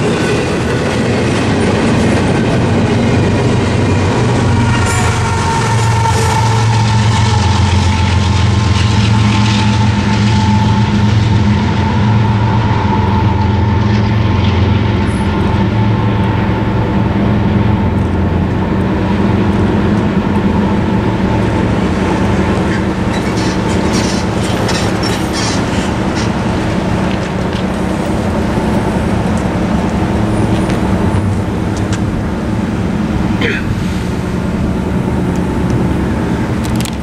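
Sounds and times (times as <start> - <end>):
diesel locomotive engine rumble: 0.0 - 37.0
freight cars rumbling on rails: 0.0 - 37.0.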